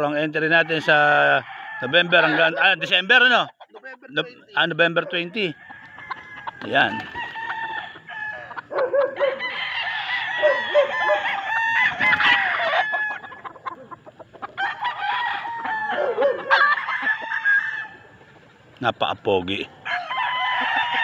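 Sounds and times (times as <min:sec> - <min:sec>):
roosters crowing: 0:00.0 - 0:03.7, 0:04.4 - 0:21.0.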